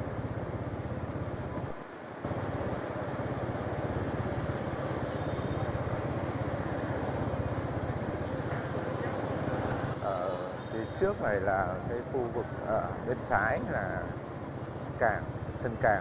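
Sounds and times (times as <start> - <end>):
street traffic: 0.0 - 16.0
motor scooter engine: 2.2 - 16.0.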